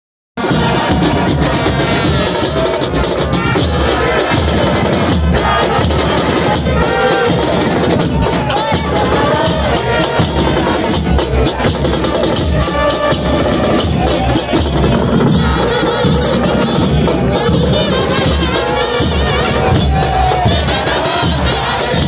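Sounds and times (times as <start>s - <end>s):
bass drums beating: 0.4s - 22.0s
football supporters chanting: 0.4s - 22.0s.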